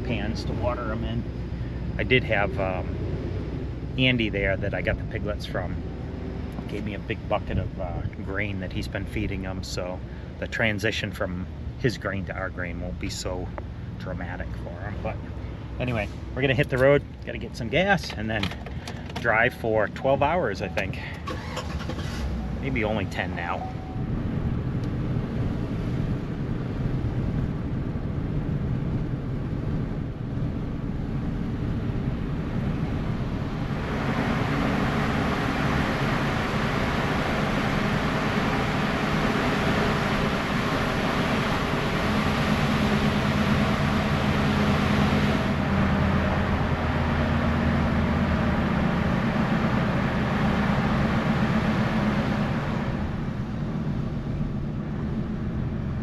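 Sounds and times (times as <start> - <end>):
rushing tyres and wind: 0.0 - 56.0
vehicle engine droning: 0.0 - 56.0.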